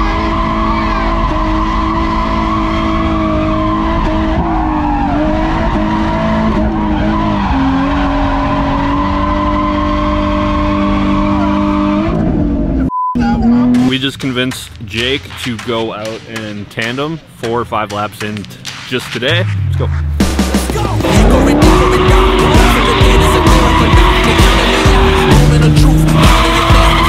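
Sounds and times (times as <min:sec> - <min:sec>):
car engine at high revs: 0:00.0 - 0:14.0, 0:19.0 - 0:27.0
tyres skidding: 0:00.0 - 0:27.0.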